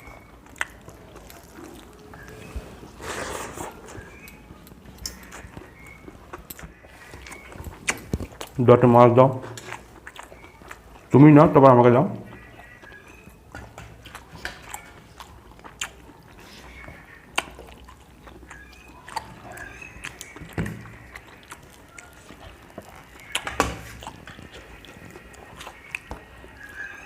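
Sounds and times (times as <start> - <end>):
chewing smacks: 0.0 - 11.5, 12.2 - 27.0.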